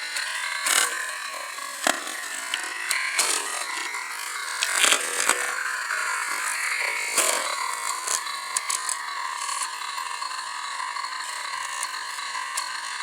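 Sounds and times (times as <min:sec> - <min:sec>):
small electric motors whirring: 0:00.0 - 0:13.0.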